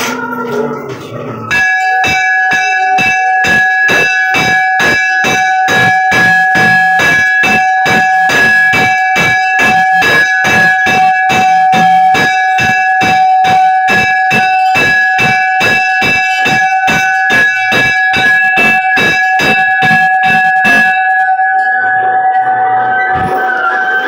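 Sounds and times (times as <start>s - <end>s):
bell struck rapidly: 1.5s - 24.0s.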